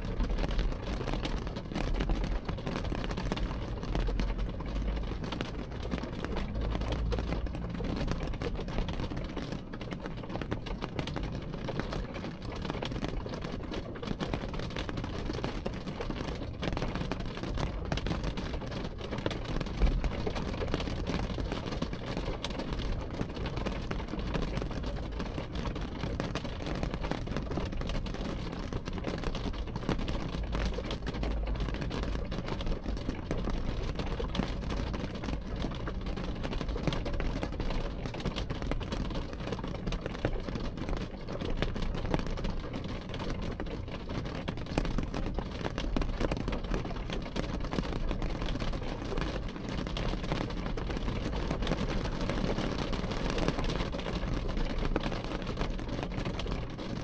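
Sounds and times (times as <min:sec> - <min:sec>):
rain pattering on car window: 0:00.0 - 0:57.0.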